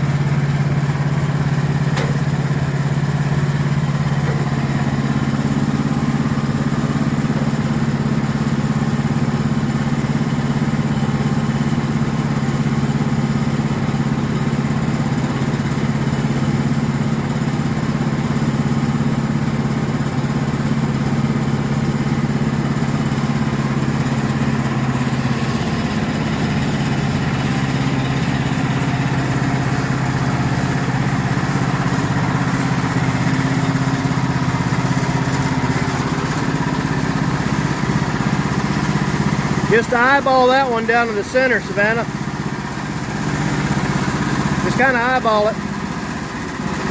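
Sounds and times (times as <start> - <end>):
sawmill engine running: 0.0 - 46.9.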